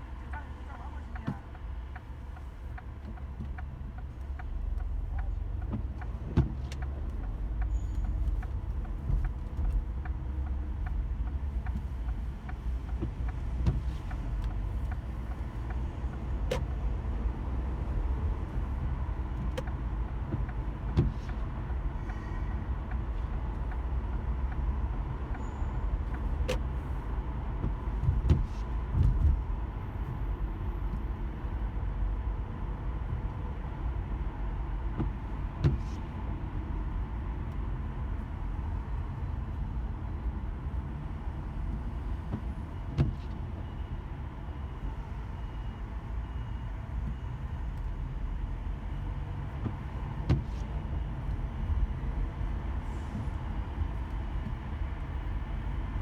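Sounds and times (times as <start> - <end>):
road and engine rumble: 0.0 - 56.0.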